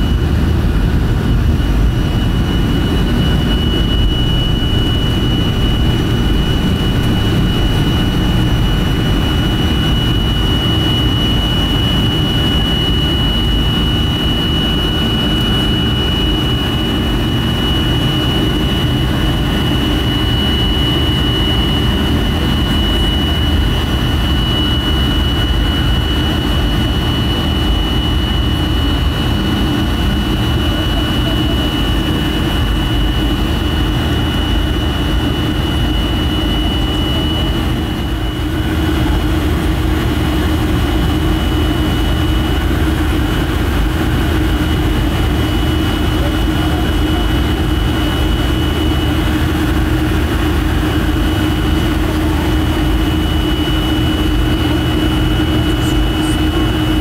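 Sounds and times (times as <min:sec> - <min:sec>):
jet engine high whine: 0:00.0 - 0:57.0
jet engines low roar: 0:00.0 - 0:57.0.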